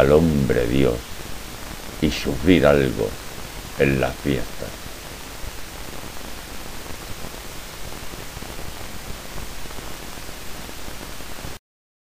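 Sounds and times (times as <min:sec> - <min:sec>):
microphone hiss: 0:00.0 - 0:11.6.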